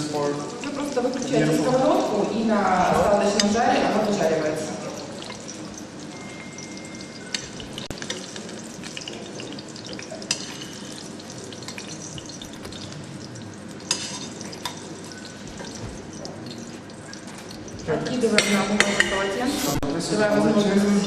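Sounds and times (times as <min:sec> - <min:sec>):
pancakes sizzling in oil: 0:00.0 - 0:19.0.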